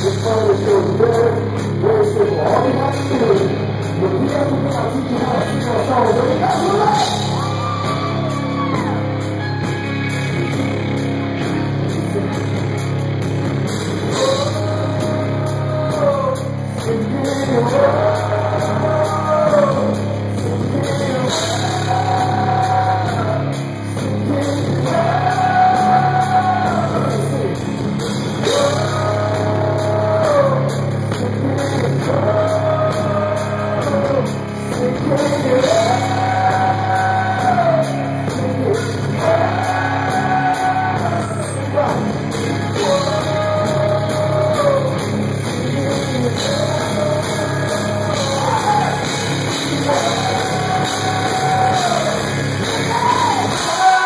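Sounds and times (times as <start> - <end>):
man singing long lines: 0.0 - 9.0, 14.1 - 27.8, 28.4 - 54.0
bass guitar: 0.0 - 54.0
rock band playing live: 0.0 - 54.0.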